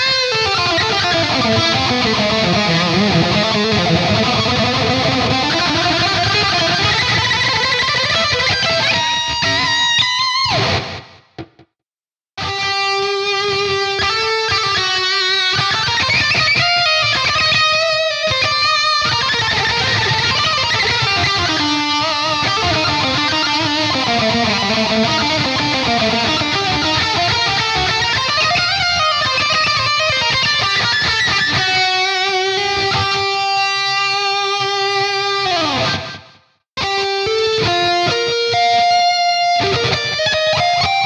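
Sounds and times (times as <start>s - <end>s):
electric guitar riffing: 0.0s - 11.6s, 12.4s - 41.0s
guitar pitch dive: 0.0s - 11.7s, 12.4s - 41.0s.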